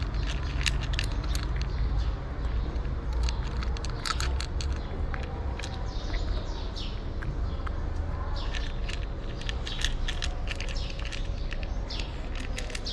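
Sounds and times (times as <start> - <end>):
cat crunching dry kibble: 0.0 - 12.9
small birds chirping: 0.0 - 12.9.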